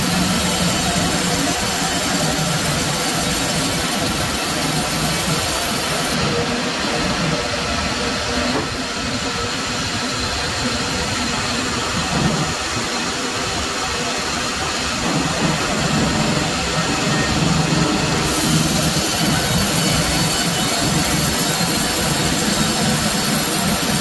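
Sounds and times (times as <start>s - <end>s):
machinery running: 0.0s - 24.0s.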